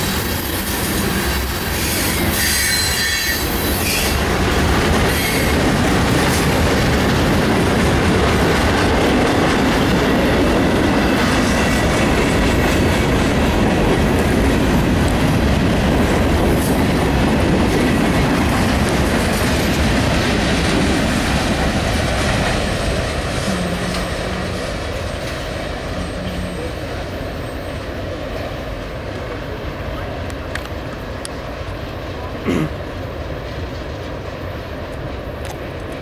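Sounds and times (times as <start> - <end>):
freight cars rumbling on rails: 0.0 - 36.0.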